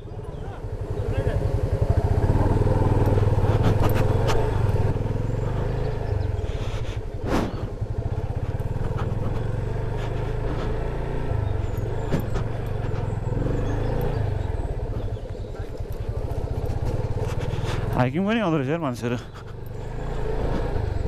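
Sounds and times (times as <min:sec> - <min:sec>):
motorcycle engine at low speed: 0:00.0 - 0:21.0
motorcycle knocks and rattles: 0:00.7 - 0:06.2, 0:07.2 - 0:21.0.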